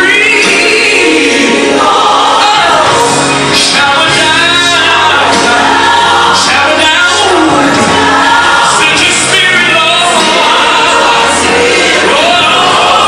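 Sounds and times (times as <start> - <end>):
gospel choir singing: 0.0 - 13.0
steady musical accompaniment: 0.0 - 13.0.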